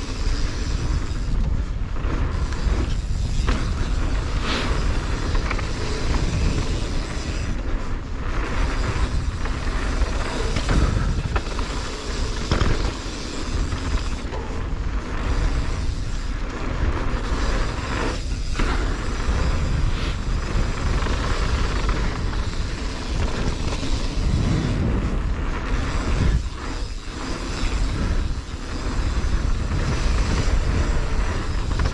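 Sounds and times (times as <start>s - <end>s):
bike knocks and rattles: 0.0s - 31.9s
tyres and wind rushing: 0.0s - 31.9s.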